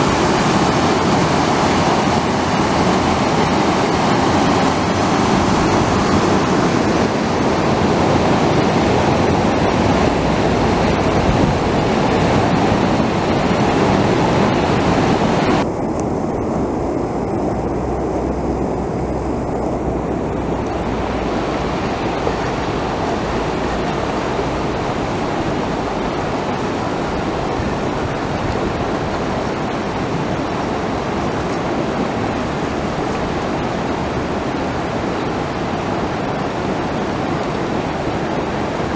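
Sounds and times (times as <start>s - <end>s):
flood water rushing: 0.0s - 38.9s.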